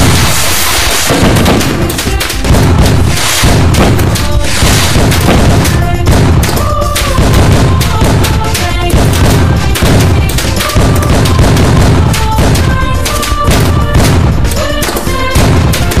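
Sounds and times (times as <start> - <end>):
firecrackers crackling and booming: 0.0 - 16.0.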